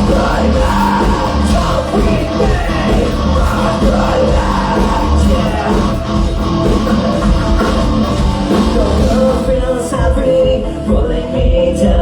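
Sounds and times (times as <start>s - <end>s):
live rock band playing: 0.0s - 11.2s.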